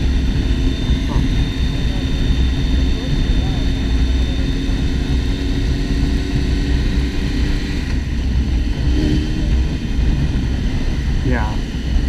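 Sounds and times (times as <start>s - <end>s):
motorcycle engine drone: 0.0s - 12.0s
wind rush on microphone: 0.0s - 12.0s.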